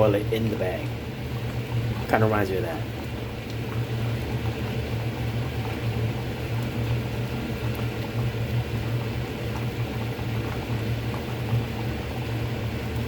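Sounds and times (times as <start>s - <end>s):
water boiling in a pot: 0.0s - 13.0s.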